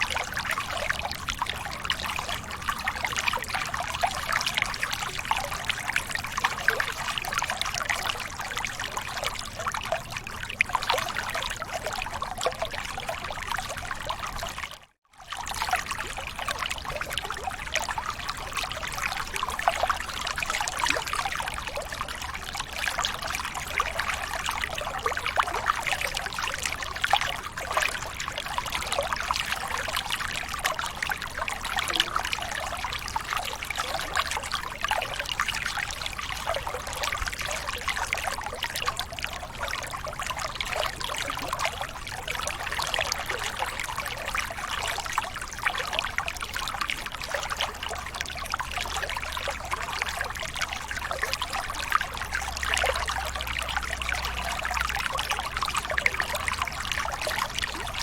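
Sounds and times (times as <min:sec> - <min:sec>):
water trickling and splashing: 0:00.0 - 0:58.0.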